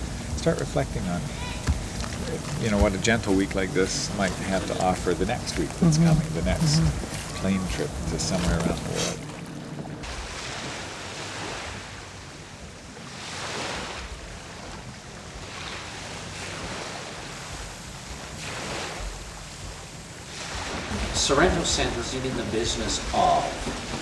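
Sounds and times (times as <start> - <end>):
small waves washing ashore: 0.0 - 24.0.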